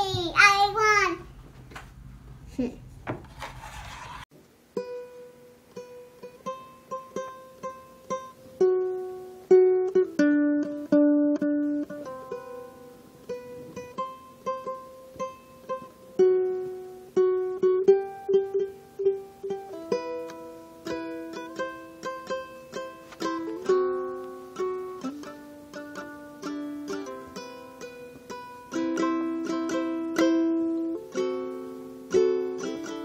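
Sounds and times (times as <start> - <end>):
plucked-string melody: 4.7 - 33.0.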